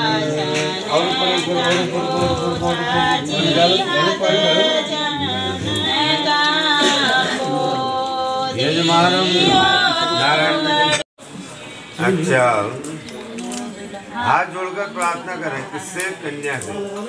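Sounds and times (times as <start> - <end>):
voices singing with music: 0.0 - 17.0.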